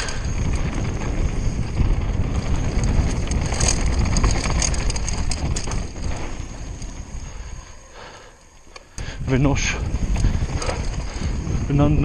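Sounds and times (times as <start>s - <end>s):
bike rattling over rough ground: 0.0s - 12.0s
wind rumbling on microphone: 0.0s - 12.0s.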